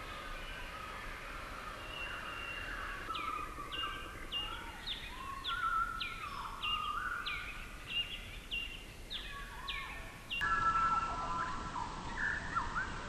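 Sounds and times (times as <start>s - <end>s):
background hiss: 0.0s - 13.0s
lower whistled bird notes: 0.0s - 13.0s.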